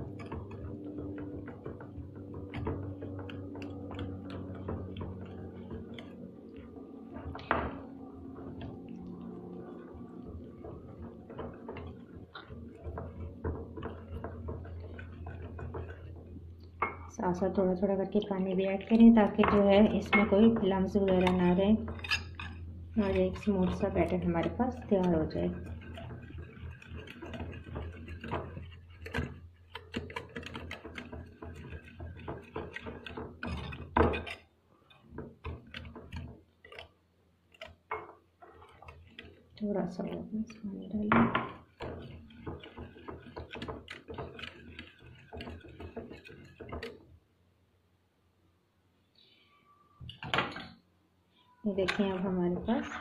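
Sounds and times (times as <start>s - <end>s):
whisk clicking against bowl: 0.0s - 47.1s.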